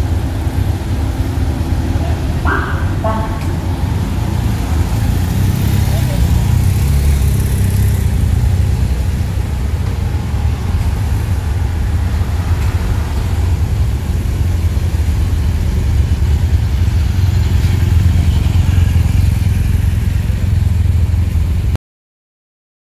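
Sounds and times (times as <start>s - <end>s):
cars and motorcycles driving past: 0.0s - 21.8s.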